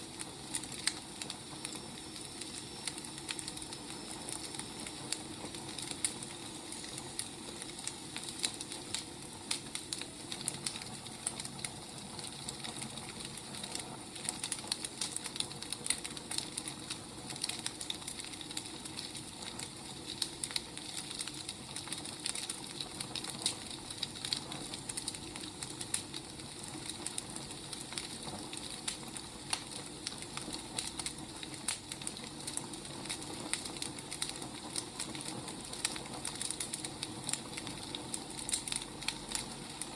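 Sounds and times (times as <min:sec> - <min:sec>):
firewood crackling and popping: 0:00.0 - 0:39.9
low hiss of fire: 0:00.0 - 0:39.9.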